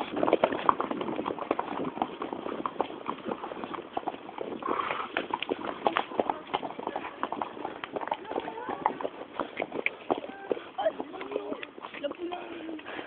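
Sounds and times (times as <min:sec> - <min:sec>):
horses galloping on dirt: 0:00.0 - 0:13.0.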